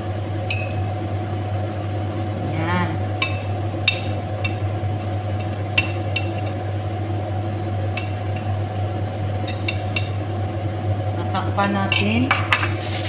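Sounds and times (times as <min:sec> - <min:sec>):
low hum: 0:00.0 - 0:12.3.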